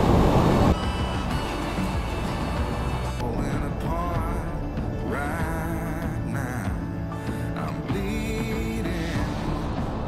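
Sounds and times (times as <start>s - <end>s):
background music with held tones: 0.1s - 10.0s.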